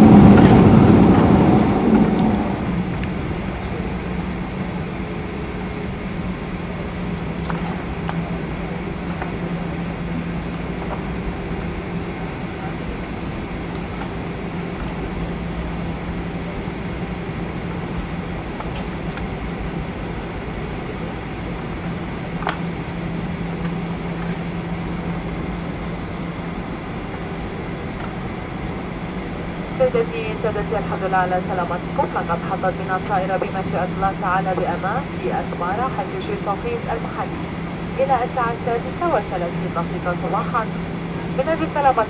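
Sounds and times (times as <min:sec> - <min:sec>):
airliner cabin rushing hum: 0:00.0 - 0:42.0
low engine drone: 0:00.0 - 0:42.0.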